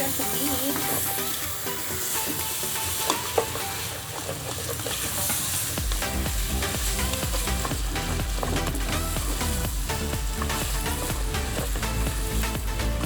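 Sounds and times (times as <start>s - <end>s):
rice and meat sizzling in pot: 0.0s - 13.0s
spoon stirring and scraping: 0.1s - 12.6s.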